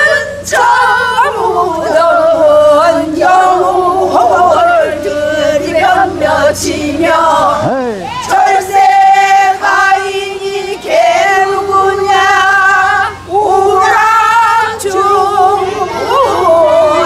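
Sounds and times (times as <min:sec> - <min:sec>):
group of women singing folk song: 0:00.0 - 0:17.0.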